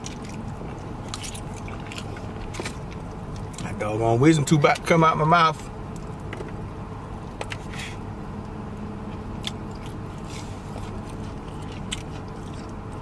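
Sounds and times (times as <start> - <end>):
man chewing and mouth smacks: 0.0 - 3.8, 5.6 - 6.6, 7.2 - 13.0
steady low hum: 0.0 - 13.0.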